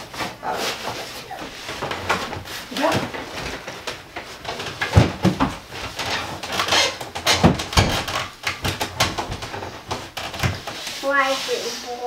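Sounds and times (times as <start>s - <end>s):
furniture knocks and bumps: 0.2s - 10.8s.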